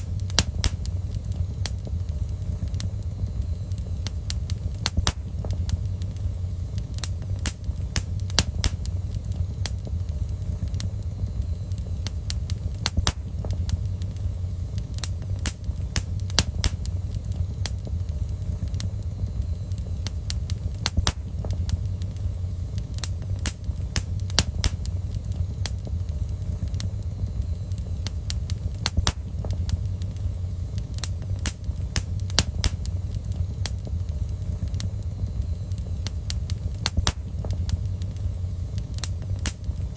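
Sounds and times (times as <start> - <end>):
burning wood crackling and popping: 0.0 - 39.9
fire rumbling: 0.0 - 39.9.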